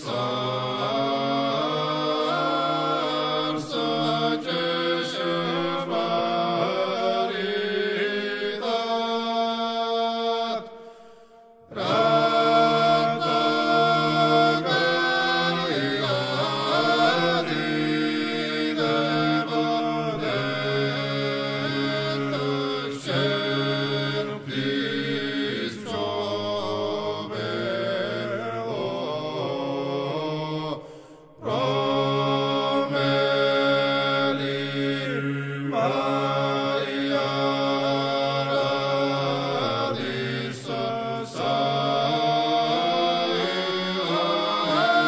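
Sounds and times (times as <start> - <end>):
a cappella choir chanting: 0.0 - 45.0.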